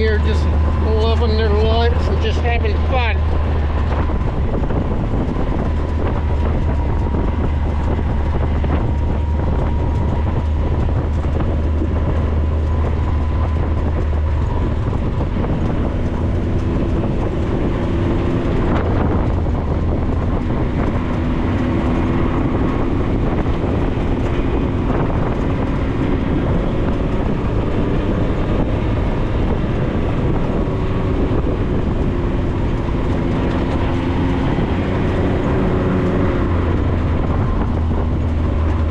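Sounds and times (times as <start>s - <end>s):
deep hum: 0.0s - 38.9s
vehicle engine driving: 0.0s - 38.9s.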